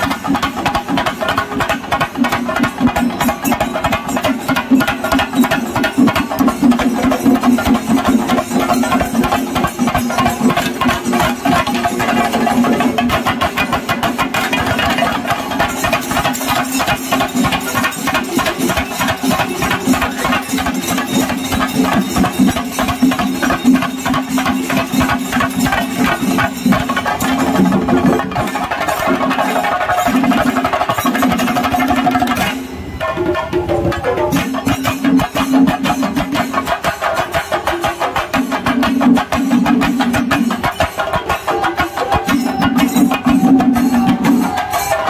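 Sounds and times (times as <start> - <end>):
rapid dense drumming: 0.0 - 45.0.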